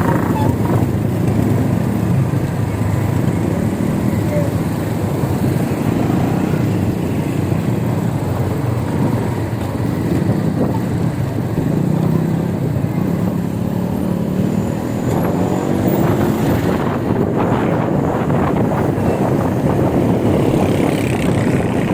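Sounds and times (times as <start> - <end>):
road and traffic rumble: 0.0 - 21.9.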